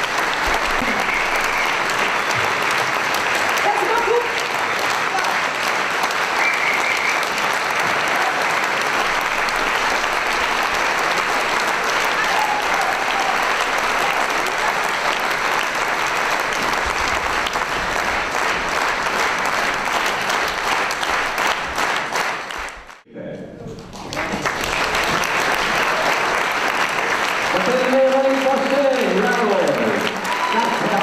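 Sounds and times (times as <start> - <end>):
large audience applauding: 0.0 - 23.0, 23.8 - 31.0.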